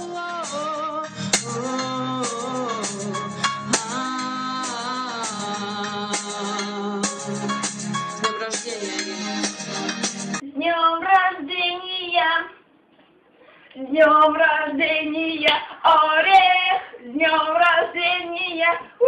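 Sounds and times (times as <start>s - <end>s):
woman singing unaccompanied: 0.0s - 7.4s, 8.3s - 9.4s, 10.4s - 12.6s, 13.8s - 19.0s.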